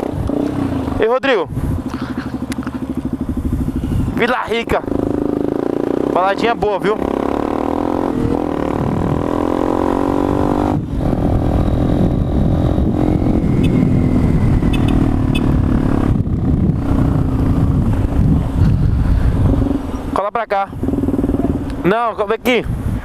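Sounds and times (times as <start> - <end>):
motorcycle engine running: 0.0 - 22.4.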